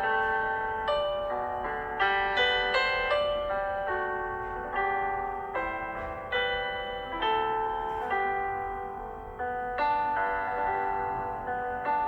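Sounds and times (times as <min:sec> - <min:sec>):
slow ringing keyboard melody: 0:00.0 - 0:12.0.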